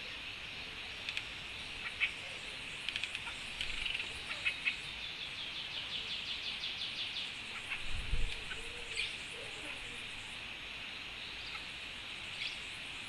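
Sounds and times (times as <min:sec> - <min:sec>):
birds chirping: 0:00.0 - 0:10.4, 0:11.2 - 0:12.8
stream water hissing: 0:00.0 - 0:13.0.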